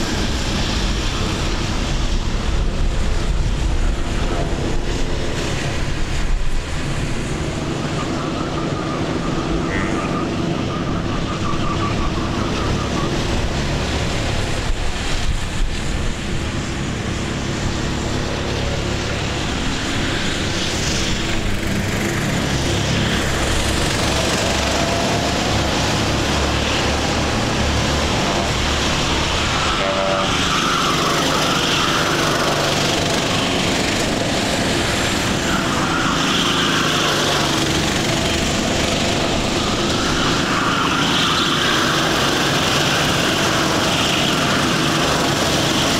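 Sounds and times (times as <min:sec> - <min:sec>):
kart engines passing: 0:00.0 - 0:45.9.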